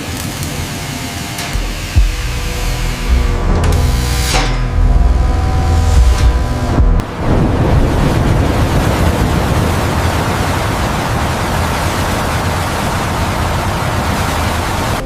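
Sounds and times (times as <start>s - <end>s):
loud rushing noise with rumble: 1.4s - 15.0s.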